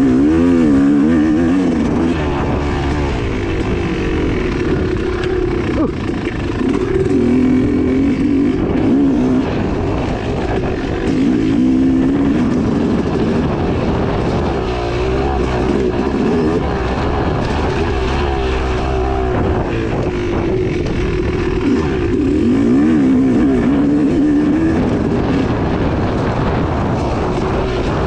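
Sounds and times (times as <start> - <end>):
two-stroke engine revving: 0.0 - 28.0.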